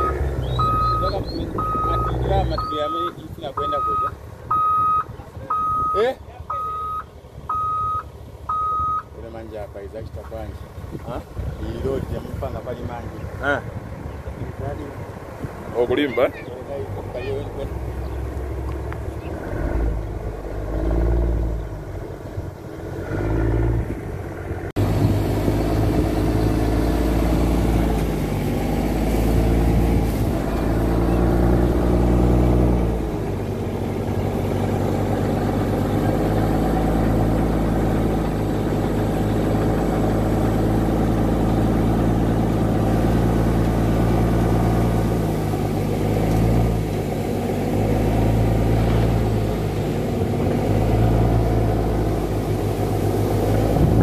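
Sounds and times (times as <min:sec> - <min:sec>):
dump truck diesel engine running: 0:00.0 - 0:54.0.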